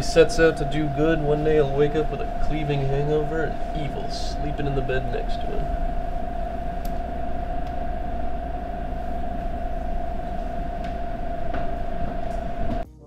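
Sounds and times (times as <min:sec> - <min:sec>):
held tone: 0:00.0 - 0:12.8
low rumbling drone: 0:00.0 - 0:12.9.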